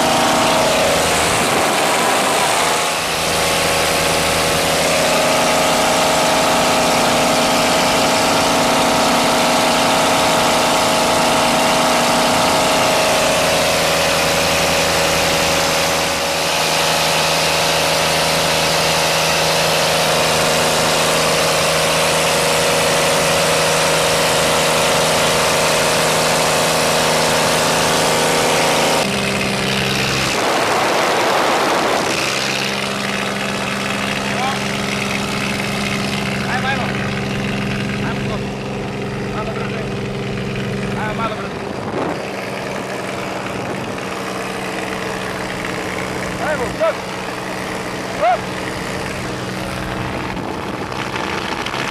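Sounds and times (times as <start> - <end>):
propeller plane engine drone: 0.0 - 51.9.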